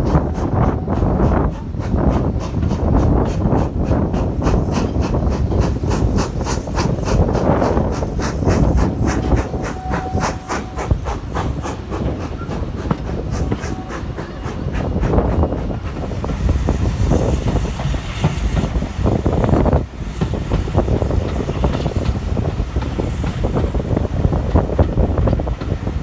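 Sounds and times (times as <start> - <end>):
steam train running: 0.0 - 26.0.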